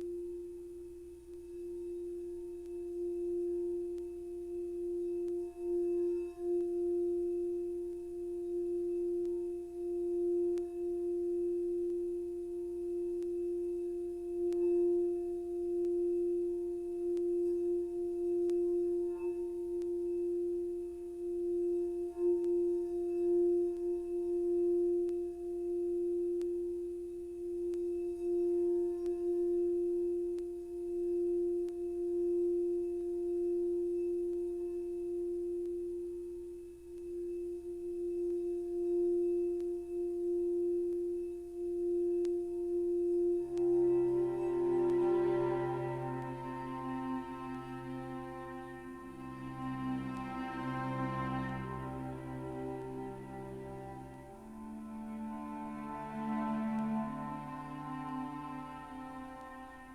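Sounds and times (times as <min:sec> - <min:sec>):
faint light ticks: 0:00.0 - 0:59.9
singing bowl ringing: 0:00.0 - 0:59.9.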